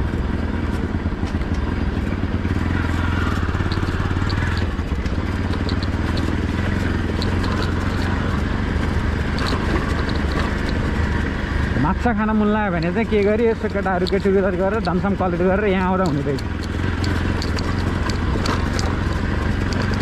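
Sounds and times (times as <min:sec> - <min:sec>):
faint ticks and rattles: 0:00.0 - 0:20.0
motorcycle engine running: 0:00.0 - 0:20.0.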